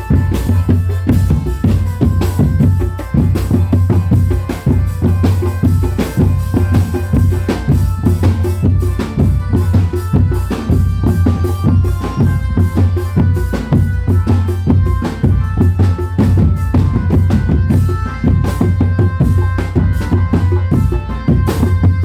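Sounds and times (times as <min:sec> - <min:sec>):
fast dense drumming: 0:00.0 - 0:22.0
held melodic notes: 0:00.0 - 0:22.0.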